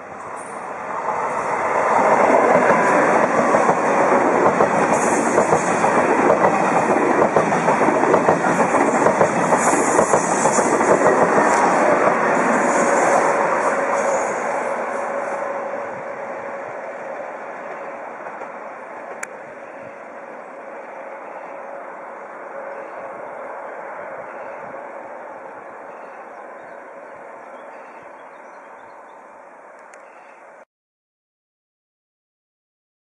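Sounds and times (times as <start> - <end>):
high-speed train passing: 0.0 - 30.6.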